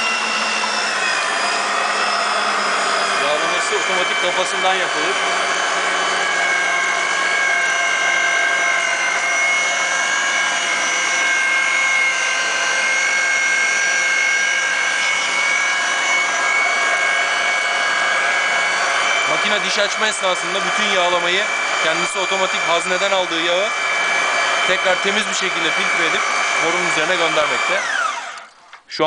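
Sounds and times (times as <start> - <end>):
pipe threading machine whine: 0.0 - 28.9.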